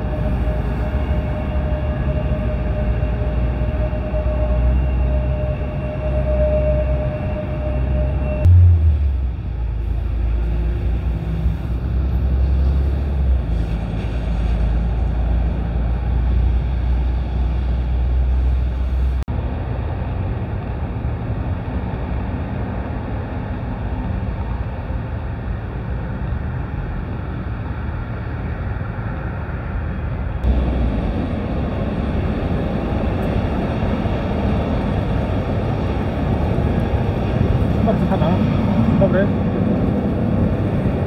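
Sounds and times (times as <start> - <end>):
distant jet engines: 0.0 - 41.0
ground traffic: 0.0 - 41.0
wind noise: 0.0 - 41.0.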